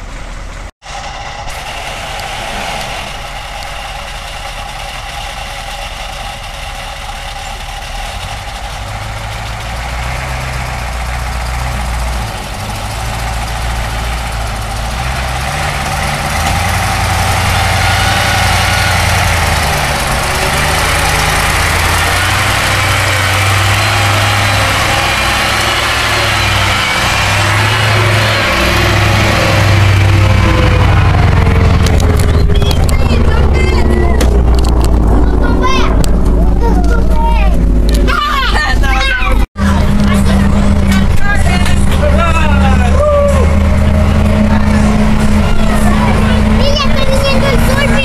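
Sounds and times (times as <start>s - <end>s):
bus engine humming: 0.0s - 48.0s.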